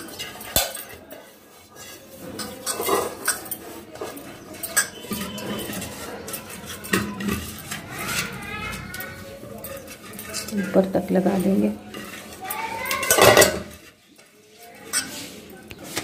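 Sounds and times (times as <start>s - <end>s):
fingers squeaking on metal pot: 0.0s - 16.0s
pot knocking and scraping: 0.0s - 16.0s.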